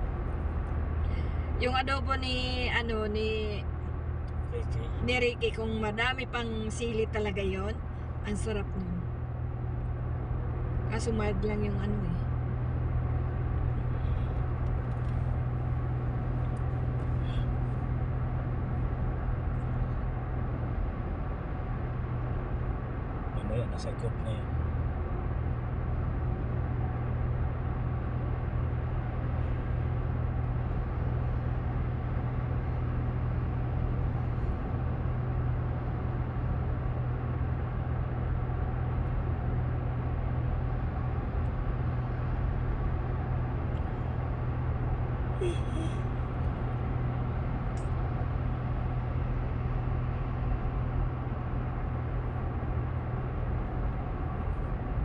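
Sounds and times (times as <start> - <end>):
road and engine rumble in cabin: 0.0 - 55.0.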